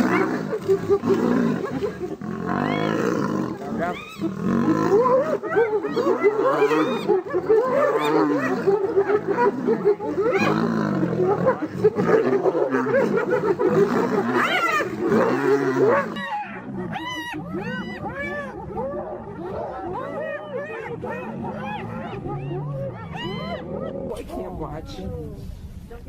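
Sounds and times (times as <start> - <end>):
hyenas calling: 0.0 - 25.2
hyenas growling: 0.0 - 25.8.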